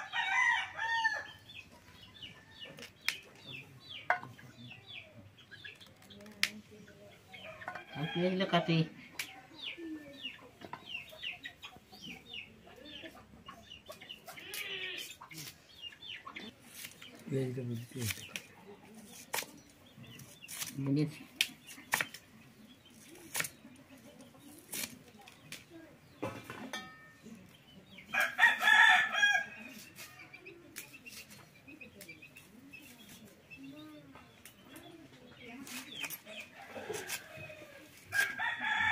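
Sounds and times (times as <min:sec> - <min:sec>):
chickens clucking: 0:01.4 - 0:38.9.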